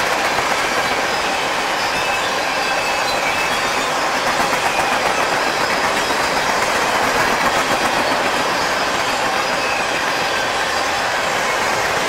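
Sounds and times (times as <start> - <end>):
freight train wheels on track: 0.0 - 12.0.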